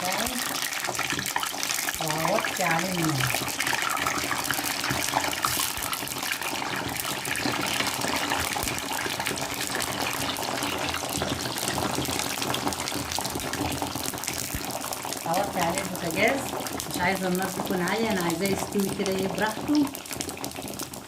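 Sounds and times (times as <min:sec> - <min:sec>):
eggplants sizzling in hot oil: 0:00.0 - 0:21.0.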